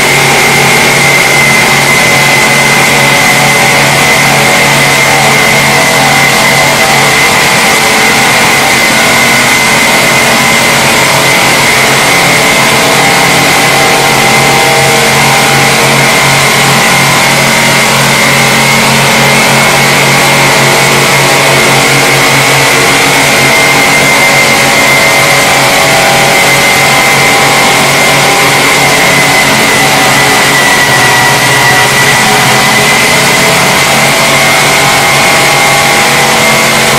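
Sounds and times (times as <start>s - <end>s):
discs grinding on steel tank: 0.0s - 36.9s
low motor hum: 0.0s - 36.9s.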